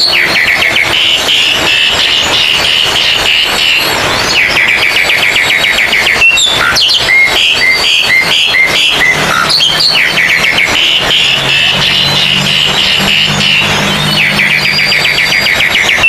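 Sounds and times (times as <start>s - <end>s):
birds singing loudly: 0.0s - 16.0s.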